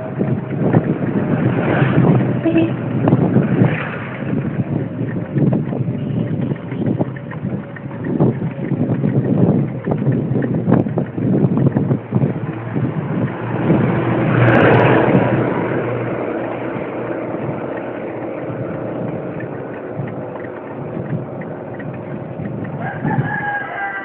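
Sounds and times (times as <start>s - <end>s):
road traffic engine hum: 0.0s - 24.0s
vehicle passing close: 0.0s - 24.0s.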